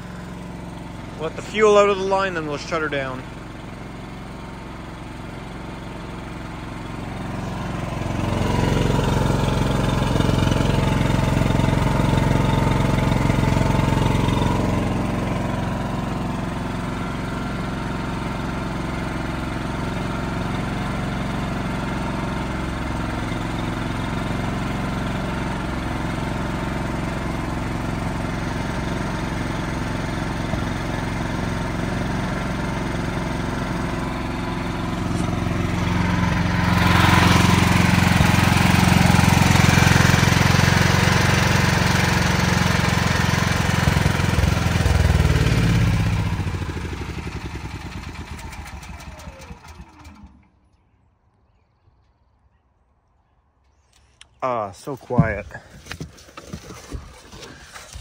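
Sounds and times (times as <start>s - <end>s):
generator engine running: 0.0s - 50.9s, 54.3s - 58.0s.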